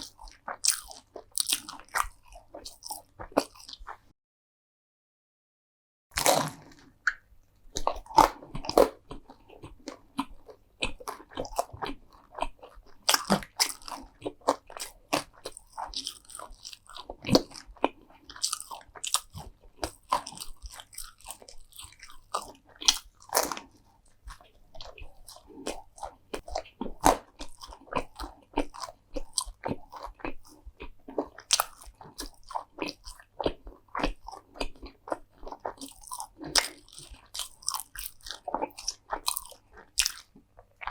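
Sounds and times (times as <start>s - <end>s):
chewing: 0.0s - 4.0s, 7.8s - 40.9s
crunchy food bites: 0.0s - 4.0s, 6.2s - 40.9s.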